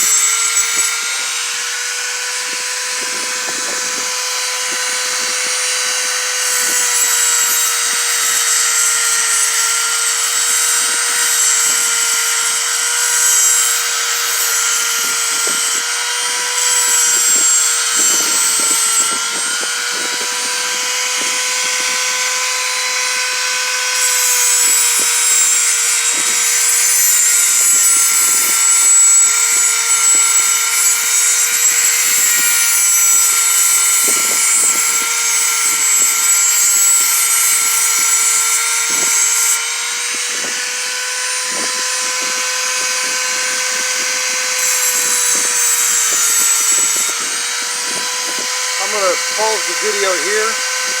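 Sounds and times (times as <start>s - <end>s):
grinding wheel hissing on steel: 0.0s - 51.0s
power tool high whine: 0.0s - 51.0s.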